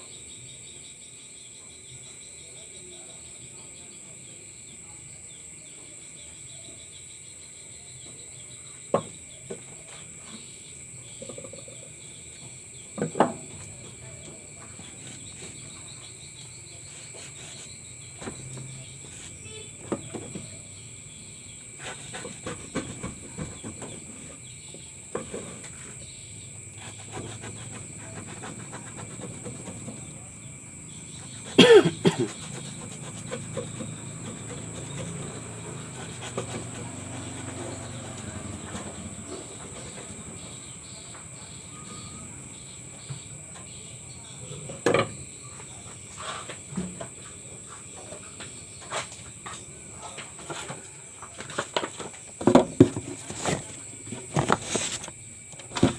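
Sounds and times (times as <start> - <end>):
high insect trill: 0.0 - 55.9.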